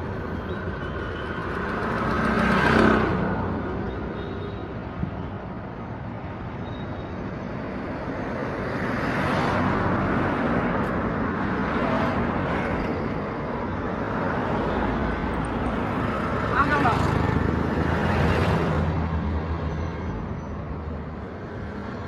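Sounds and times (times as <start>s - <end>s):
vehicles passing on street: 0.0s - 22.0s.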